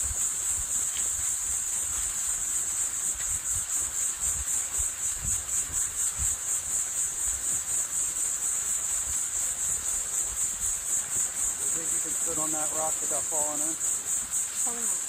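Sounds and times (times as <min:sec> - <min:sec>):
footsteps on forest trail: 0:00.0 - 0:14.7.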